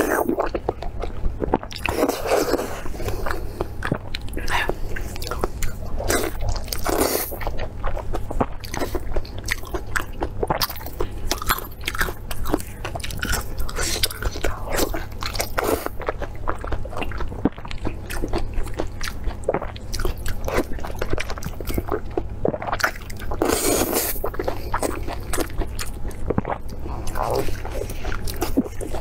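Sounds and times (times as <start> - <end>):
wet chewing and biting: 0.0 - 29.0.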